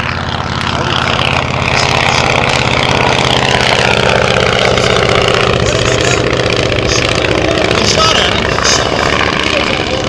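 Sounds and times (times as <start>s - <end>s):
propeller plane flying by: 0.0s - 10.0s.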